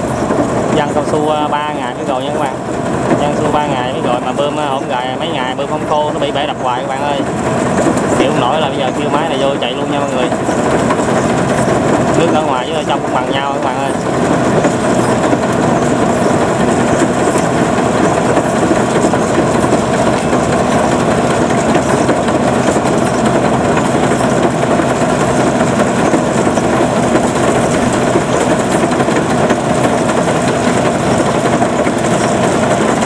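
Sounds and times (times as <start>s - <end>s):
combine harvester engine: 0.0s - 33.0s
rattling machinery: 0.0s - 33.0s.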